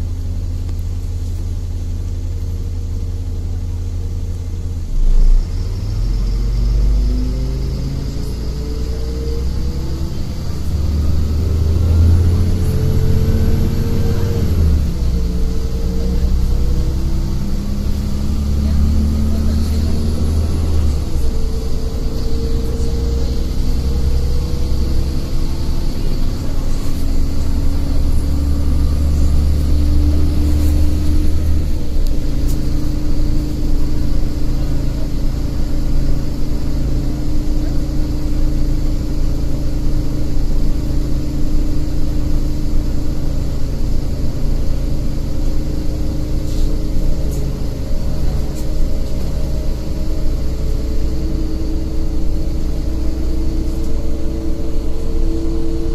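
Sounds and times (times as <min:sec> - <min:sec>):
bus engine drone: 0:00.0 - 0:55.9.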